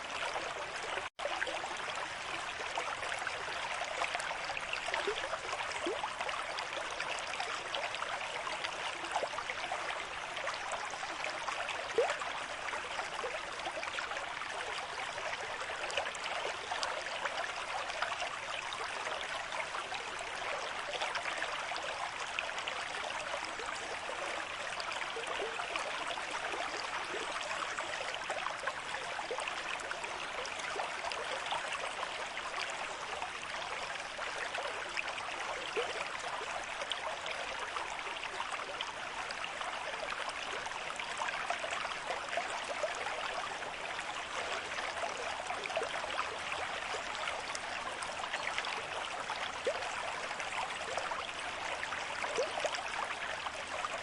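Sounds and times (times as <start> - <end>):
stream rushing and babbling: 0.0 - 54.0.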